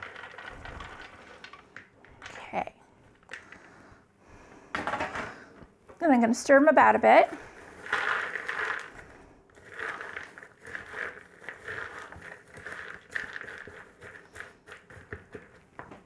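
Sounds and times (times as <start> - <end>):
popcorn and nuts stirred in bowl: 0.0 - 3.8, 6.8 - 16.0.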